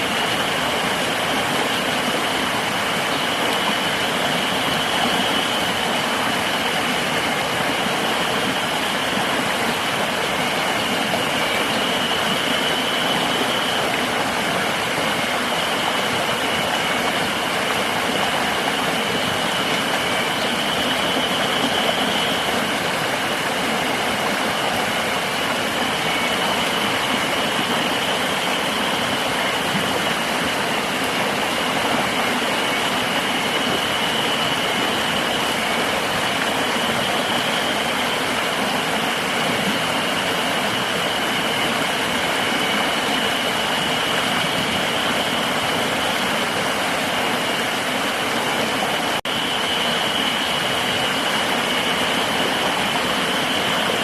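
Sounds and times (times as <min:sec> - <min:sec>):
river water rushing: 0:00.0 - 0:54.0
high-pitched insect drone: 0:00.1 - 0:23.4, 0:24.4 - 0:46.4.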